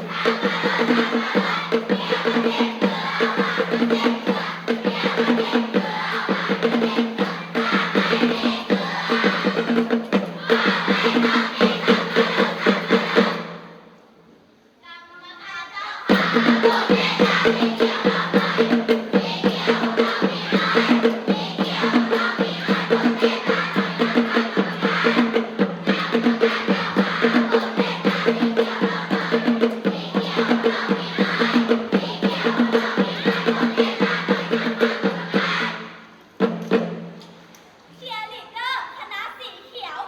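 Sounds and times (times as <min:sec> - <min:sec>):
upbeat music with drum beat: 0:00.0 - 0:13.7, 0:16.1 - 0:37.2.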